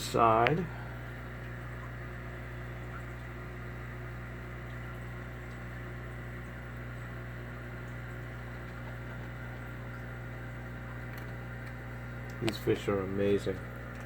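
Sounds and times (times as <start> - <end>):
aquarium equipment hum: 0.0 - 14.0.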